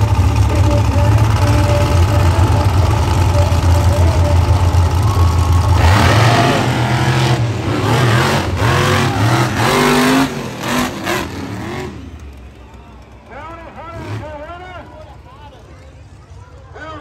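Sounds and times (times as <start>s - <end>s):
truck engine revving: 0.0s - 16.1s.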